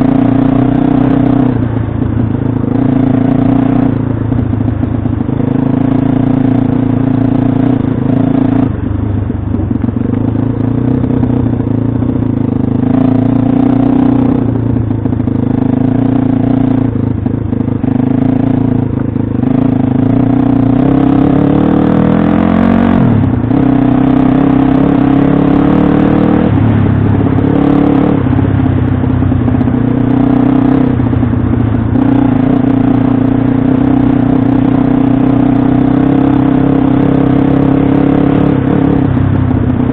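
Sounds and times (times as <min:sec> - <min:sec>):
motorbike engine revving: 0:00.0 - 0:09.0, 0:09.6 - 0:39.9.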